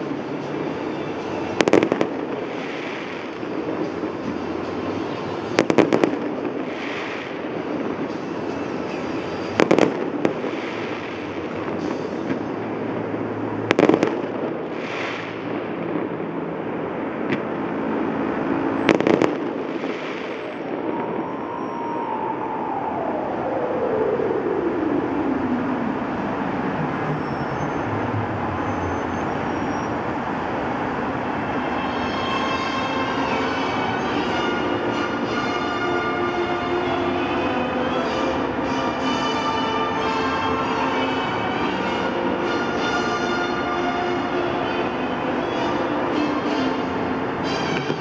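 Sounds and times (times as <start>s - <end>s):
fireworks bangs: 0.0s - 22.4s, 31.3s - 48.0s
fireworks crackle: 0.0s - 22.4s, 30.7s - 48.0s
passing vehicle whine: 0.0s - 48.0s.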